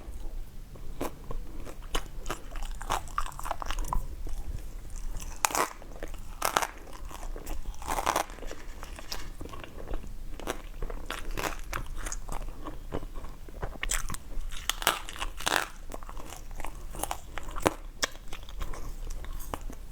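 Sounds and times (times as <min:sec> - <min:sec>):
quiet chewing: 0:00.0 - 0:19.9
crunchy bites of food: 0:01.0 - 0:19.8.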